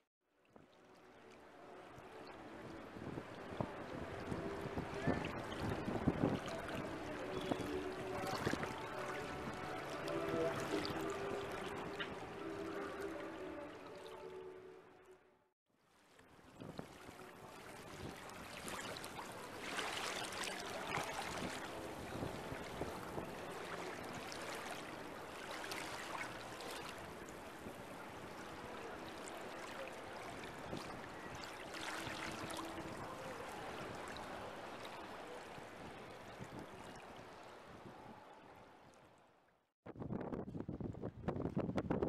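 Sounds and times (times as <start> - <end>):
water lapping and splashing: 0.5 - 15.2, 15.8 - 39.3.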